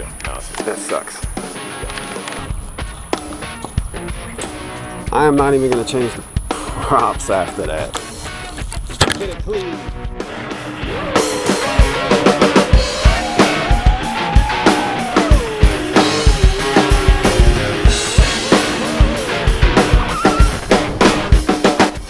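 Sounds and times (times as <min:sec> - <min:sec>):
drum kit beat: 0:00.0 - 0:22.0.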